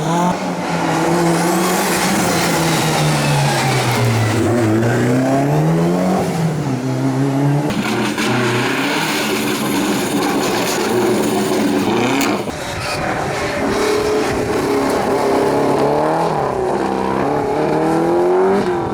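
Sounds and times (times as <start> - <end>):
engine revs rising and falling: 0.0 - 18.9
rally car engines at full throttle: 0.0 - 18.9.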